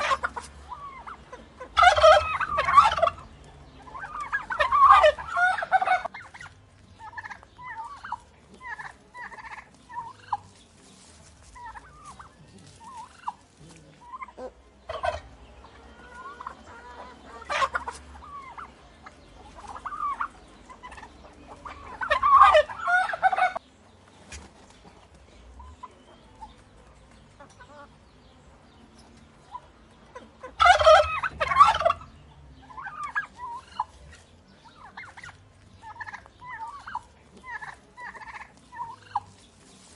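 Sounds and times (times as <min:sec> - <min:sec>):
turkey gobbling: 0:00.0 - 0:26.7, 0:27.4 - 0:27.9, 0:29.4 - 0:39.4
soft turkey calls: 0:00.0 - 0:28.0, 0:29.1 - 0:39.9.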